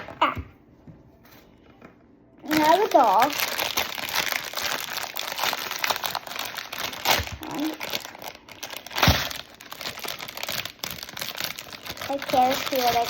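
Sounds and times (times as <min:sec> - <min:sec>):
plastic packaging crinkling: 0:02.4 - 0:13.0.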